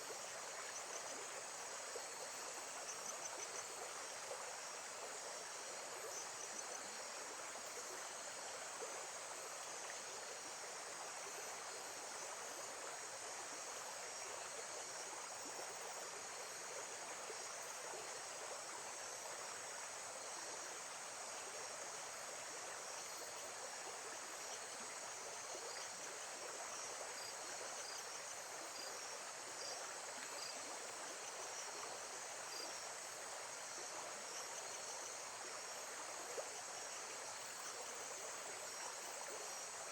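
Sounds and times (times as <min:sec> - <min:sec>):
faint high insect chirps: 0:00.0 - 0:39.9.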